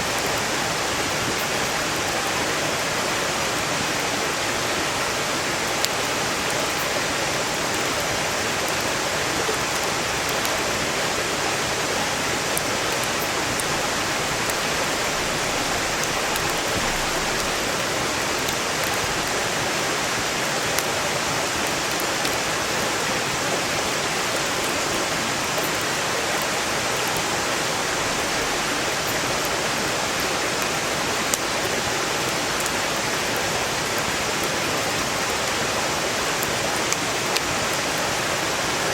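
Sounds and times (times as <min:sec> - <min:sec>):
stream water rushing: 0:00.0 - 0:38.9
campfire crackling and popping: 0:05.6 - 0:22.7, 0:23.9 - 0:38.0.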